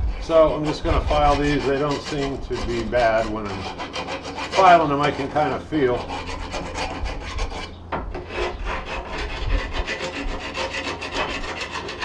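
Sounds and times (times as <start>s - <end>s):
hand file rasping metal: 0.0s - 12.0s.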